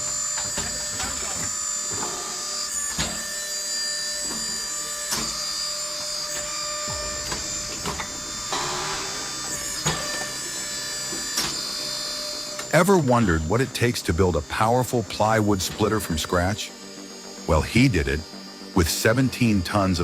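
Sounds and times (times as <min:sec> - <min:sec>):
log-splitting machine whine: 0:00.0 - 0:20.0.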